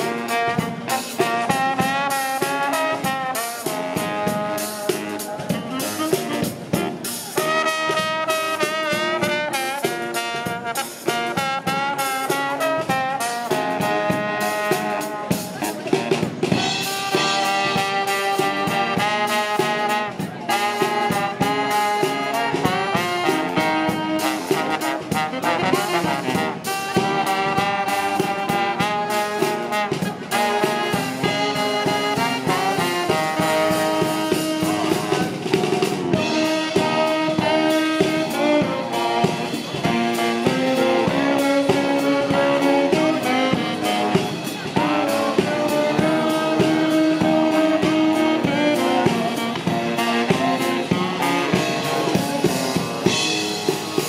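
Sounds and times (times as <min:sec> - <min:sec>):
brass instruments playing: 0:00.0 - 0:54.0
drum kit: 0:00.0 - 0:54.0.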